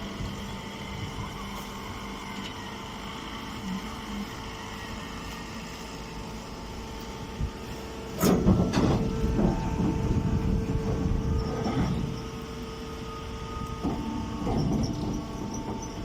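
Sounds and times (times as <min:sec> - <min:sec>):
baling machinery humming: 0:00.0 - 0:16.0.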